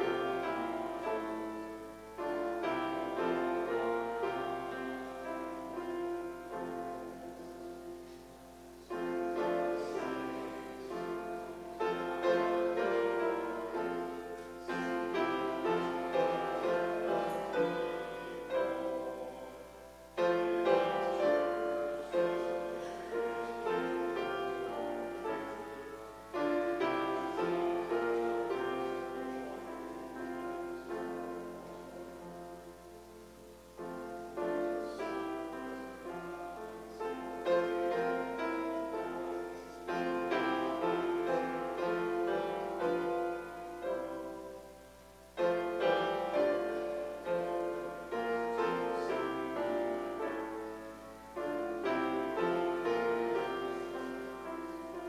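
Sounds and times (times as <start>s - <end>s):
piano playing hymn chords: 0.0s - 55.0s.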